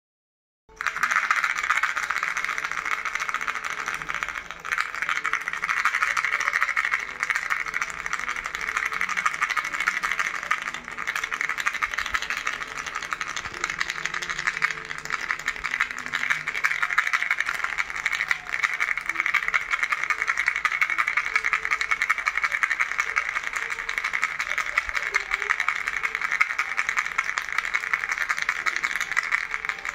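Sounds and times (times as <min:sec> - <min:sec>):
toy rattle shaken: 0:00.7 - 0:29.9.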